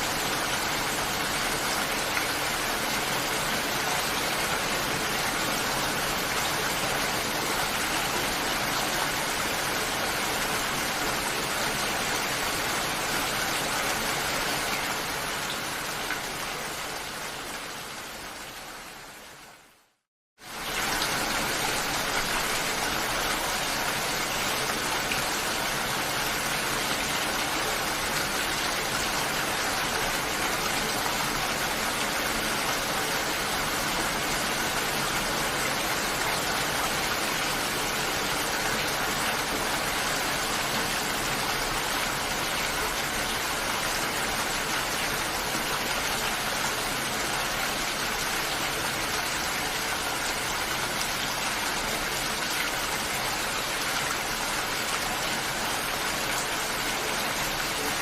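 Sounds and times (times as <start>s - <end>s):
steady heavy rain: 0.0s - 58.0s.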